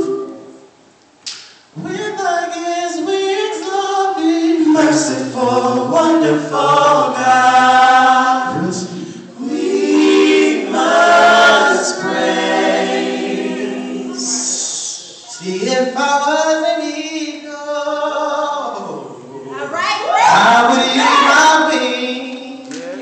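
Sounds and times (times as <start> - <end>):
male vocal group singing a cappella: 1.8 - 19.3, 20.2 - 23.0.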